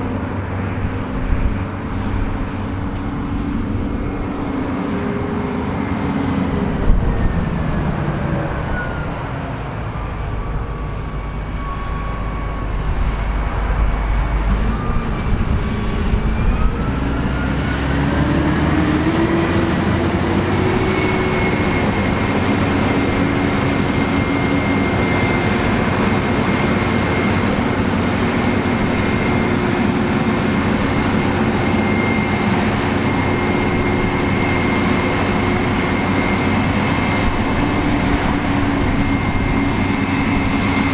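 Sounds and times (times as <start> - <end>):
combine harvester engine and machinery: 0.0 - 40.9
high whine: 0.0 - 40.9.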